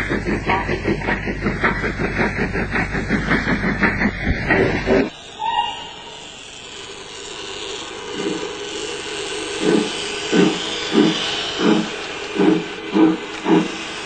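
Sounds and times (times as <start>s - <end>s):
steam hissing: 0.0s - 14.0s
steam locomotive chuffing: 0.0s - 14.0s.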